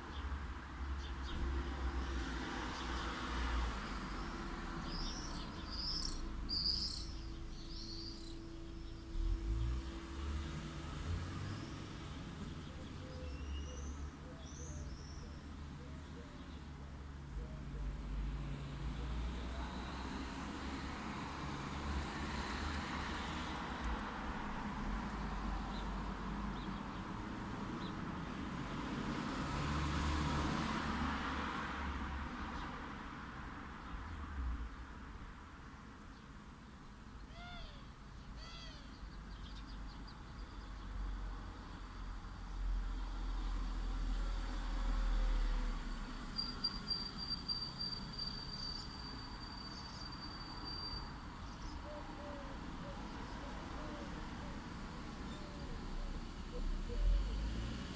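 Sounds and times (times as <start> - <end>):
car passing: 0.0 - 34.4, 40.8 - 57.9
road traffic: 0.0 - 57.9.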